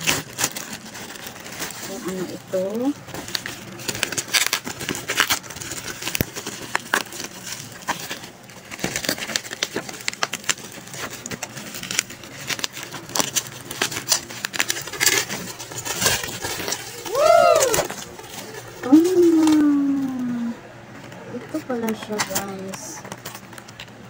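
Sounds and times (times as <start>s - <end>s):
bubble wrap crinkling: 0.0s - 24.0s.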